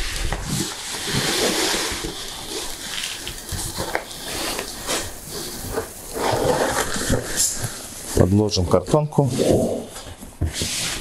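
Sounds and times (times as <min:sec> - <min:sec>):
cardboard rustling and flexing: 0:00.0 - 0:11.0.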